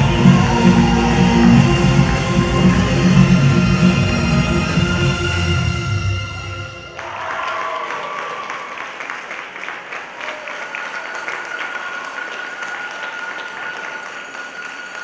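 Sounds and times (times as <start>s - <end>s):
audience applauding: 0.0s - 5.2s, 6.9s - 15.0s.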